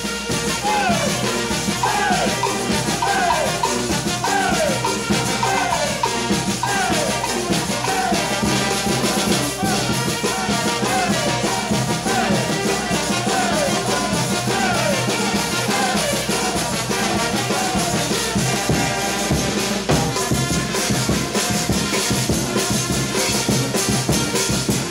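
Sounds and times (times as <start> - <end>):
latin dance music with brass and drums: 0.0 - 24.9.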